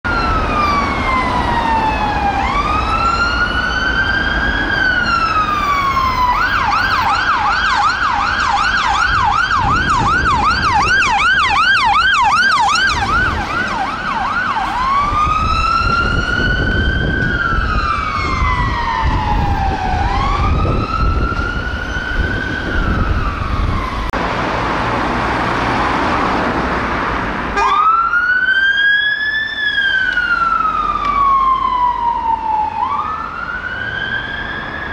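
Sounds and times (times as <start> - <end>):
fire engine siren: 0.0 - 34.9
traffic noise: 0.0 - 34.9
police car siren wailing: 0.1 - 24.2, 27.5 - 34.9.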